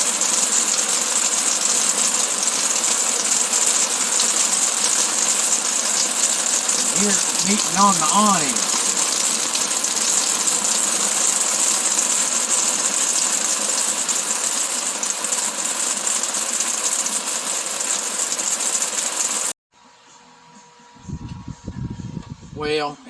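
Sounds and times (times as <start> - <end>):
rain on an awning: 0.0 - 19.5.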